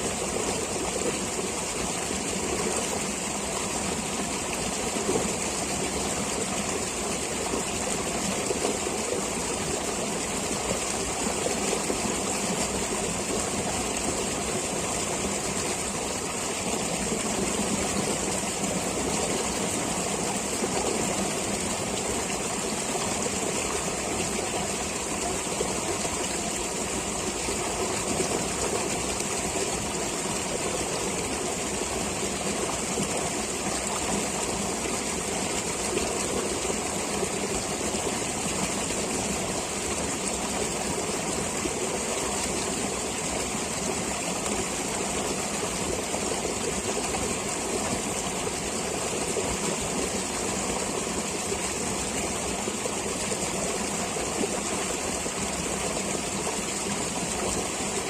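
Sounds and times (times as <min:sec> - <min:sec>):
stream of flowing water: 0:00.0 - 0:58.0.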